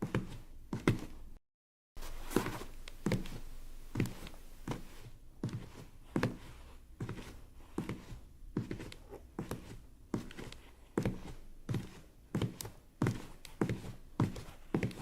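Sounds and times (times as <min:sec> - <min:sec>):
footsteps walking: 0:02.0 - 0:15.0.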